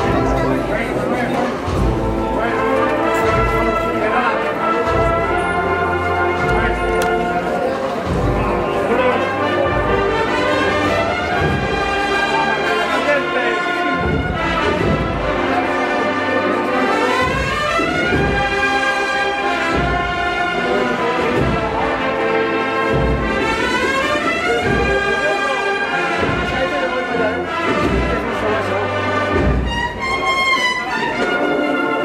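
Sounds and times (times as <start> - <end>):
brass melody: 0.0 - 32.0.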